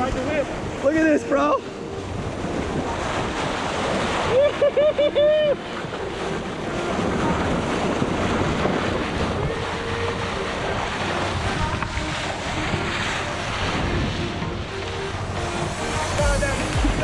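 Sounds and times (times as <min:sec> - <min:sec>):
wind buffeting microphone: 0:00.0 - 0:17.0
water spray against hull: 0:02.5 - 0:17.0.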